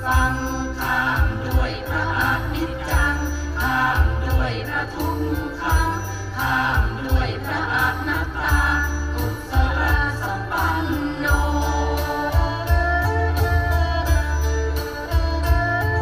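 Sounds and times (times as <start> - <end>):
music with heavy bass line: 0.0 - 16.0.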